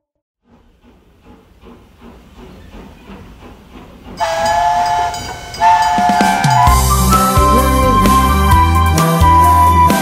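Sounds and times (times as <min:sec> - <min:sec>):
locomotive chugging with hiss: 0:00.4 - 0:09.9.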